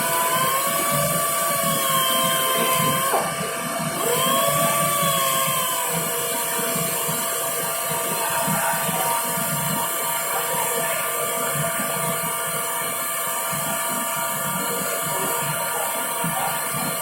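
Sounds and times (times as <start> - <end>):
motor whine: 0.0 - 17.0
power sander grinding: 0.0 - 17.0.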